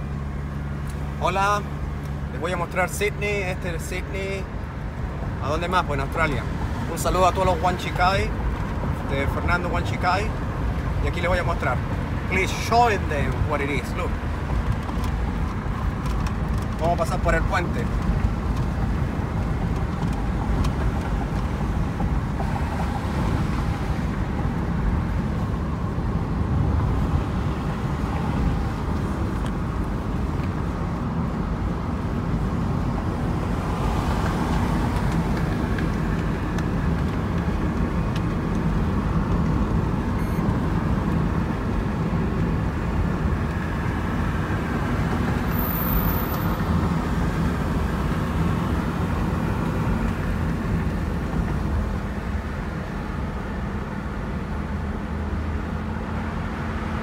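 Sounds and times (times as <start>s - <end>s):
car road noise: 0.0s - 57.0s.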